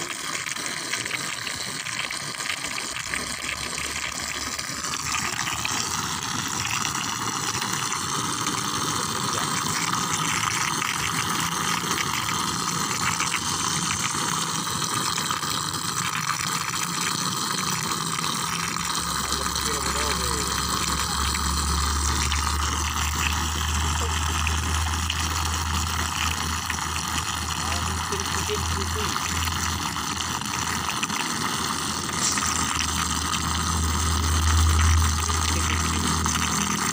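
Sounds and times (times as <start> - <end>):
flowing water rushing: 0.0 - 36.9.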